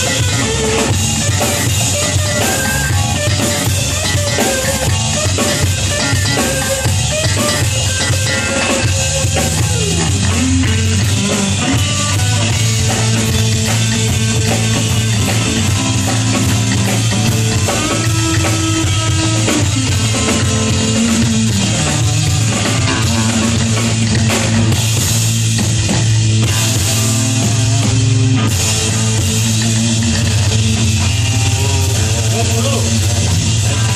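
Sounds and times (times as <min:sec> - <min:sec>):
bass guitar: 0:00.0 - 0:33.9
drum kit: 0:00.0 - 0:33.9
electric guitar: 0:00.0 - 0:33.9.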